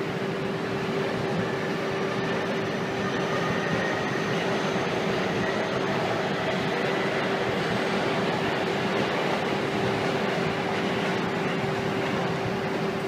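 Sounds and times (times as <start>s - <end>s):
train humming at platform: 0.0s - 13.0s.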